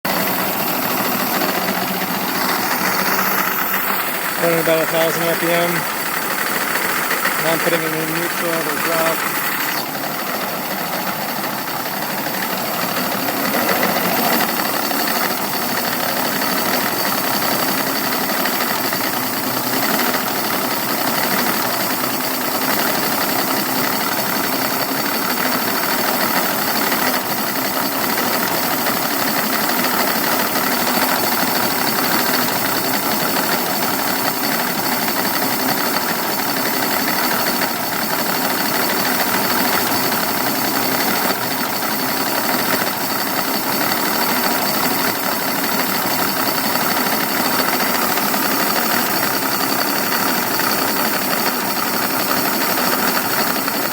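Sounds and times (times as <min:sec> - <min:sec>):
outboard motor idling unevenly: 0:00.0 - 0:53.9.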